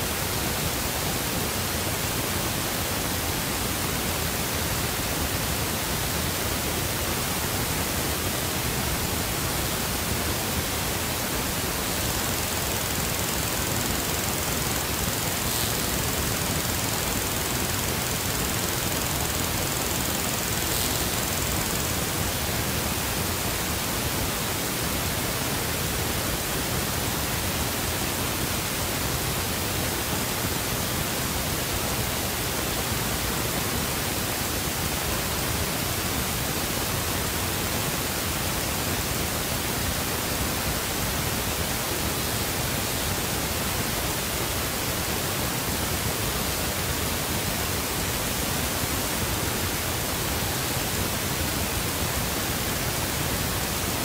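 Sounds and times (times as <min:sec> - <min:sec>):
steady static hiss: 0:00.0 - 0:54.0.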